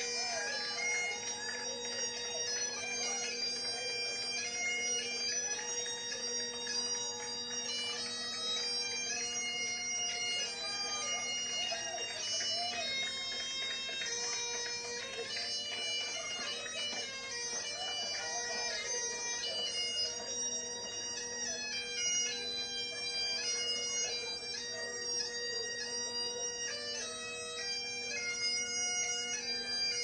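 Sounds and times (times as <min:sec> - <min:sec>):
bagpipe melody over drone: 0:00.0 - 0:30.0.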